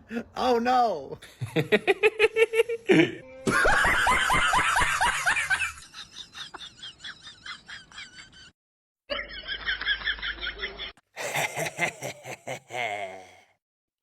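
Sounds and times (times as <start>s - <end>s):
person laughing: 1.4s - 8.5s, 9.1s - 13.4s.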